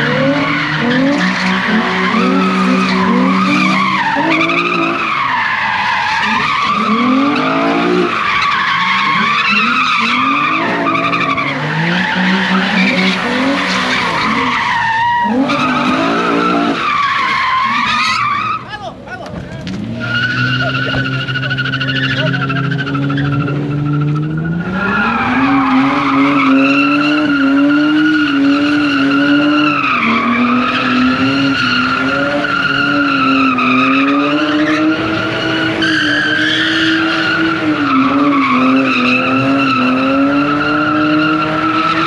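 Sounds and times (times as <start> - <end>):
car engine at high revs: 0.0 - 18.4, 19.6 - 42.0
tyres squealing: 0.0 - 42.0.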